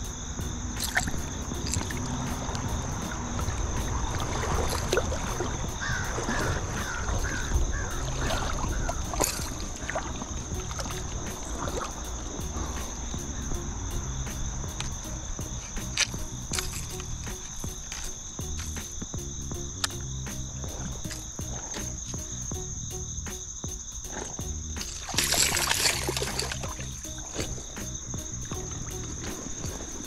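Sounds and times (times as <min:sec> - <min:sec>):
insects droning: 0:00.0 - 0:30.0
bird calling harsh notes: 0:05.2 - 0:30.0.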